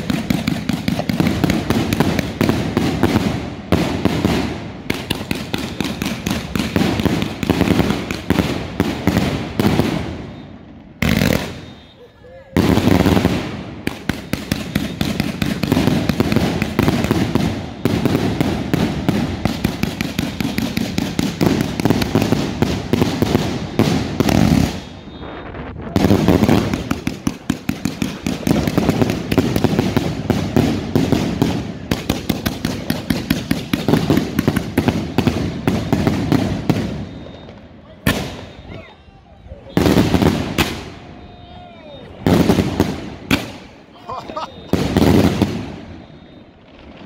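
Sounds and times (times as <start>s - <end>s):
firework barrage: 0.0s - 47.0s.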